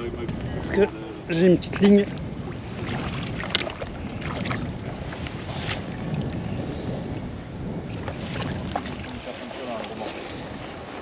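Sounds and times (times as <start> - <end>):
water lapping around boat: 0.0 - 11.0
wind buffeting microphone: 0.0 - 11.0.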